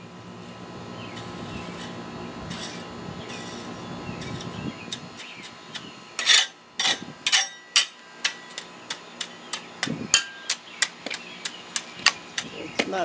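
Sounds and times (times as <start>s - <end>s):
metal hoe scraping asphalt: 0.4s - 13.0s.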